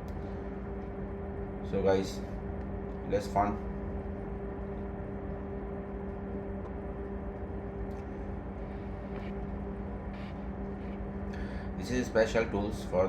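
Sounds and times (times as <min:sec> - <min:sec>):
engine-room machinery humming: 0:00.0 - 0:13.0.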